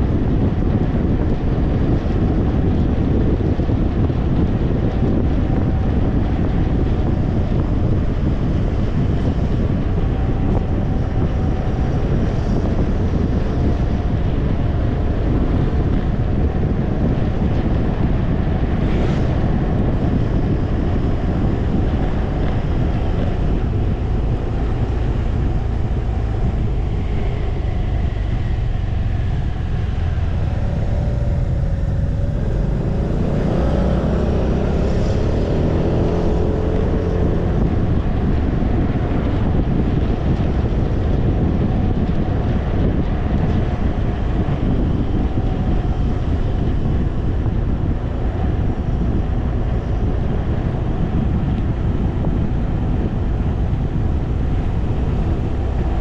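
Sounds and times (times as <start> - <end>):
scooter engine drone: 0.0 - 56.0
wind rushing over microphone: 0.0 - 56.0.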